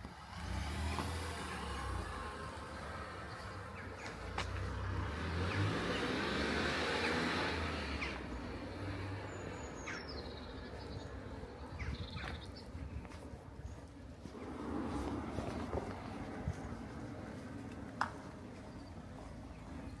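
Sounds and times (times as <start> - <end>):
car passing: 0.0 - 11.4, 14.2 - 20.0.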